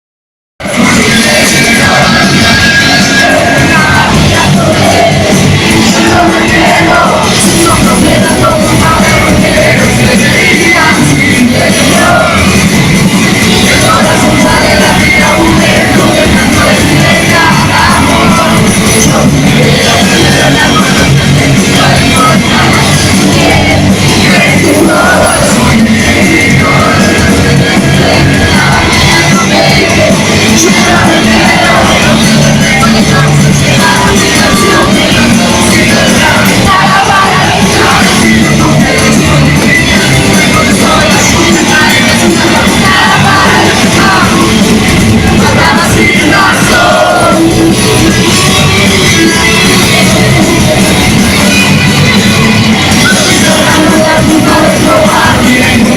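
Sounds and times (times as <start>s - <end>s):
person singing: 0.6s - 55.9s
rock band playing with vocals: 0.6s - 55.9s.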